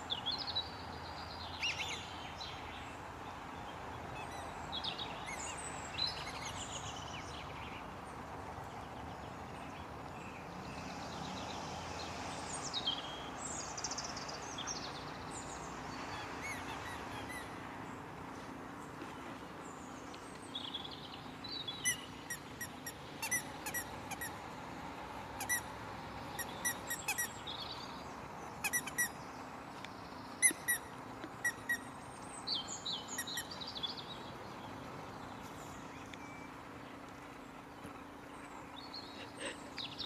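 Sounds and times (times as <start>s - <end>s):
small birds chirping: 0.0s - 24.5s, 25.3s - 40.0s
outdoor background hum: 0.0s - 40.0s.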